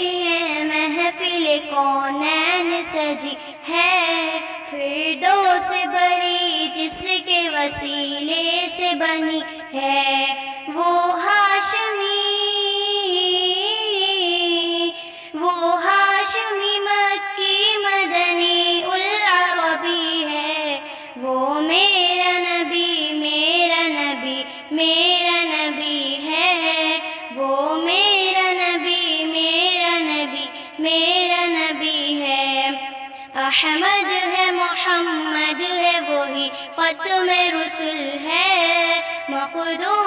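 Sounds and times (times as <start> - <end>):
solo voice singing devotional song: 0.0 - 40.0.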